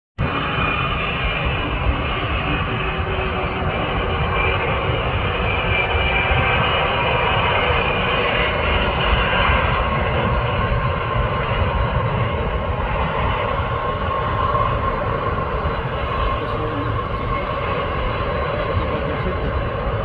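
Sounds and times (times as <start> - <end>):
jet engines running: 0.2 - 20.0.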